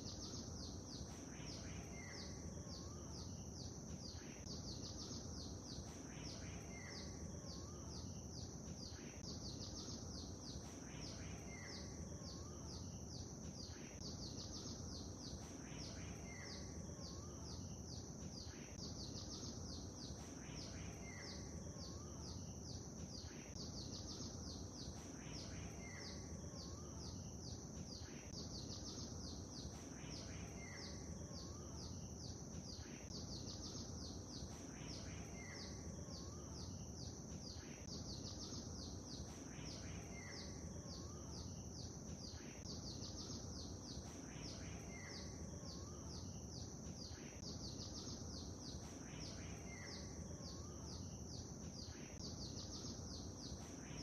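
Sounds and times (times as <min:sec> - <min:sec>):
songbirds chirping: 0:00.0 - 0:54.0
steady low background noise: 0:00.0 - 0:54.0.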